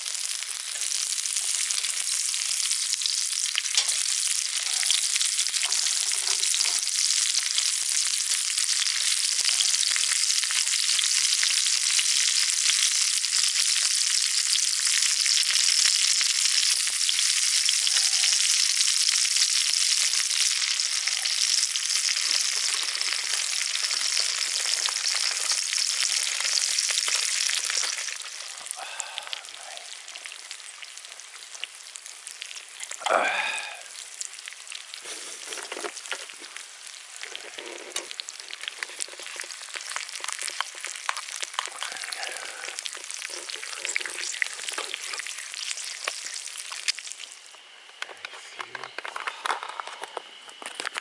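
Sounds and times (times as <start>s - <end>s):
fire pops and crackles: 0.0s - 33.1s, 34.0s - 51.0s
meat sizzling over fire: 0.0s - 47.6s.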